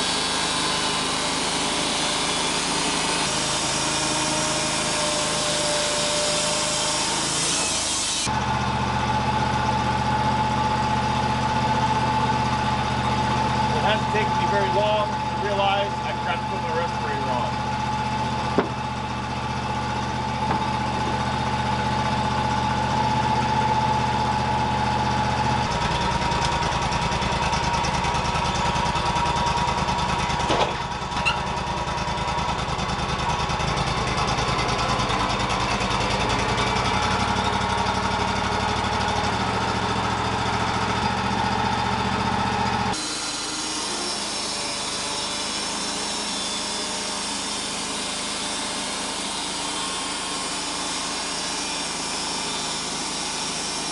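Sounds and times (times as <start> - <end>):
bandsaw sawmill cutting log: 0.0 - 53.9.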